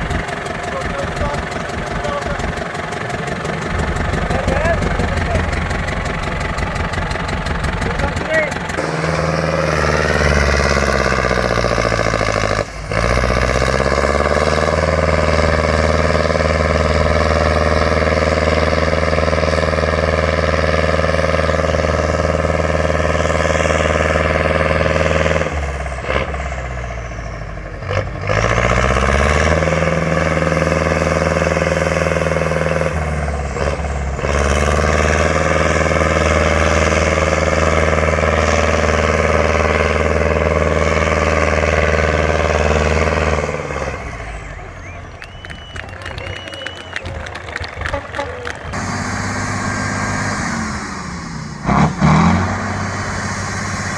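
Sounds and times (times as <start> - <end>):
truck engine revving under load: 0.0 - 53.9.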